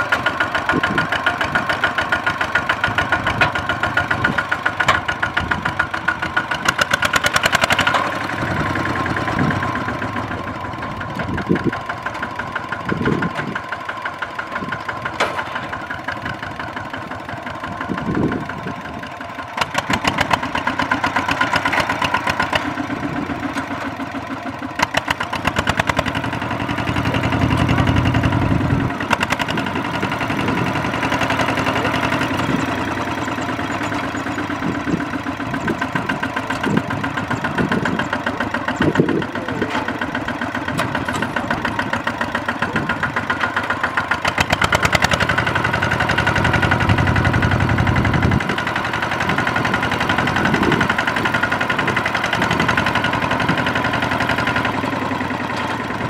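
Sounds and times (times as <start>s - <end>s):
diesel tractor engine chugging: 0.0s - 56.0s.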